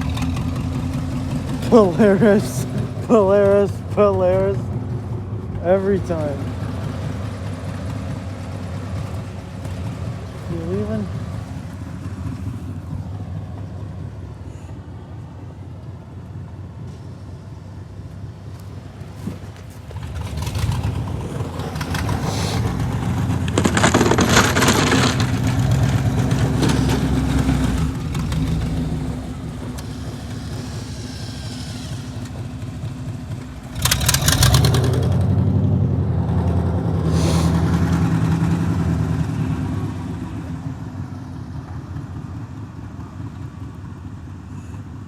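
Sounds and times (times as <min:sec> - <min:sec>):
vehicle engine revving: 0:00.0 - 0:14.7, 0:18.6 - 0:41.8.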